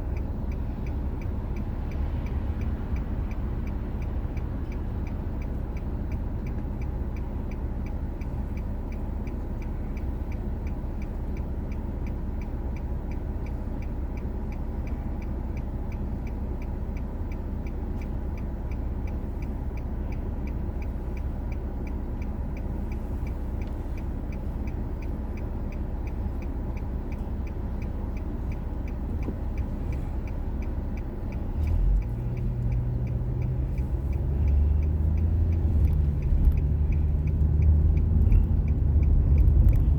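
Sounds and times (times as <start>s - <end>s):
car engine and tyres rumbling: 0.0s - 39.9s
faint ticking: 0.0s - 39.9s.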